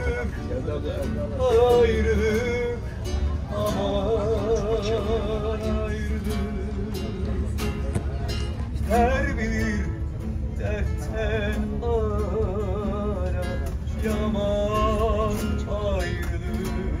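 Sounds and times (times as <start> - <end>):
bass: 0.0 - 17.0
plucked guitar: 0.0 - 17.0.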